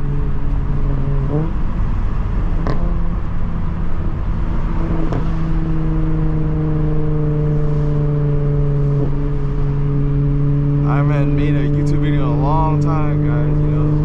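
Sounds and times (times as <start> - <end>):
car engine from inside cabin: 0.0 - 14.0.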